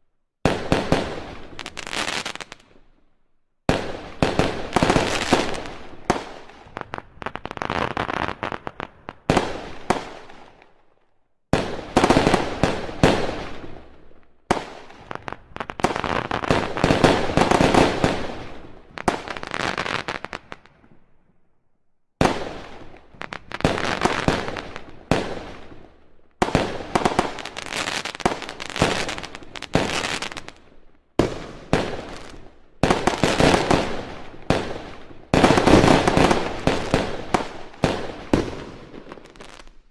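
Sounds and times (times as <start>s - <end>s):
fireworks bangs and crackle: 0.4s - 3.0s, 3.7s - 10.7s, 11.5s - 21.1s, 22.2s - 39.9s.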